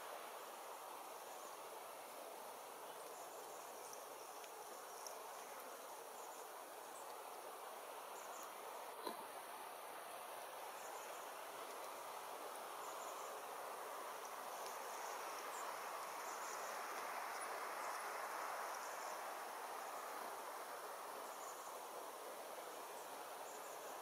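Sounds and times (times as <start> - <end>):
steady soft hiss: 0.0 - 24.0.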